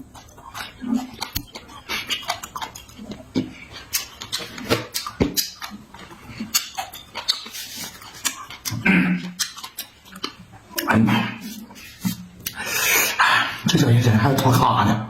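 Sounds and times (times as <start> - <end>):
chewing and slurping: 0.0 - 13.8.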